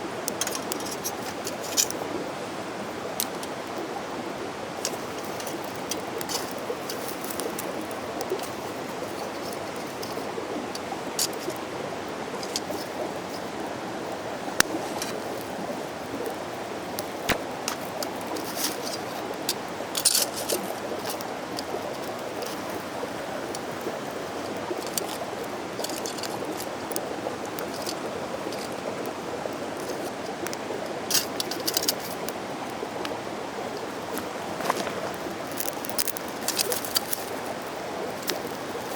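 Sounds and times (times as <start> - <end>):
stream flowing: 0.0 - 38.9
sharp crackles and clicks: 0.2 - 2.2, 4.7 - 13.6, 16.2 - 32.4, 34.2 - 38.9.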